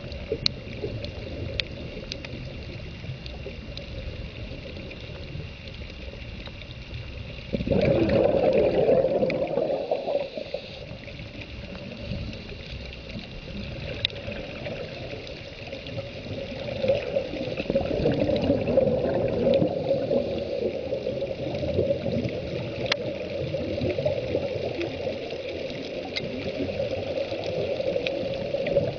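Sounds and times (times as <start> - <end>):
faint ticks: 0.0 - 8.0, 9.0 - 28.9
steady underwater hiss: 0.0 - 28.9
underwater bubbles gurgling: 0.0 - 28.9.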